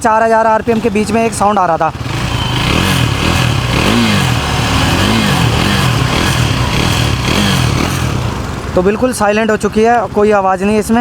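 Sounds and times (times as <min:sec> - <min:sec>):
motorcycle engine revving: 0:00.1 - 0:09.1.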